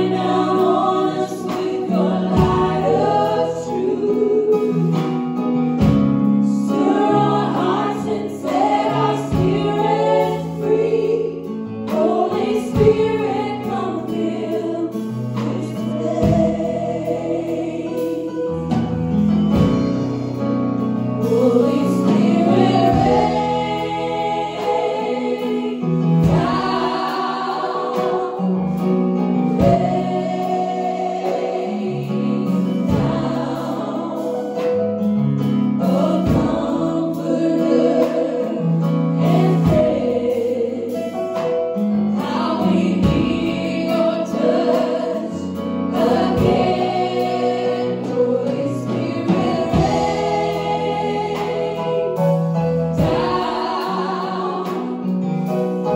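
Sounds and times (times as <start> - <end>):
group singing in harmony: 0.0 - 55.9.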